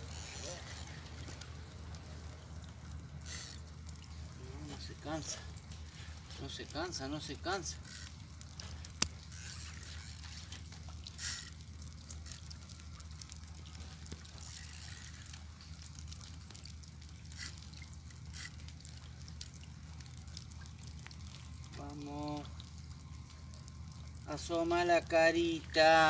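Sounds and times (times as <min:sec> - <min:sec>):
water sloshing: 0:00.0 - 0:26.0.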